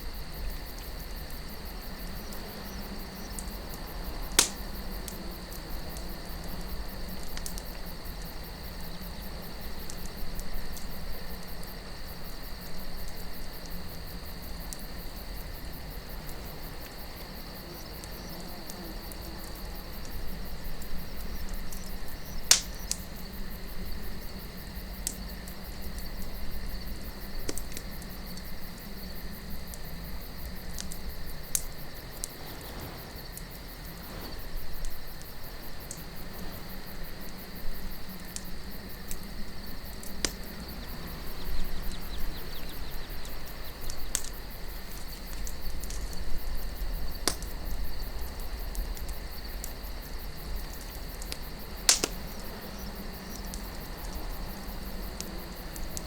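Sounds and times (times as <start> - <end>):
crickets chirring: 0.0 - 56.0
campfire crackling and popping: 0.1 - 56.0.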